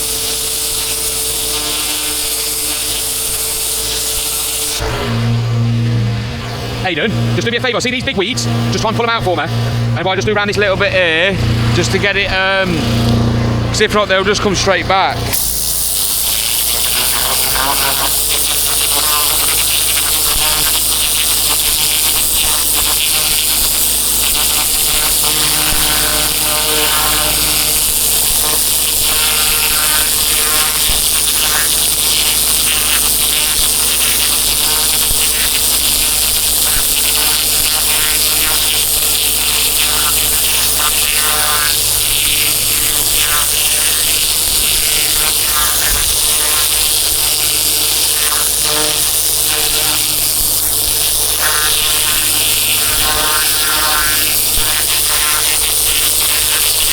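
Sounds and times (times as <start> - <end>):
high-pressure water jet hiss: 0.0 - 5.2, 15.3 - 56.9
pressure washer motor hum: 0.0 - 56.9.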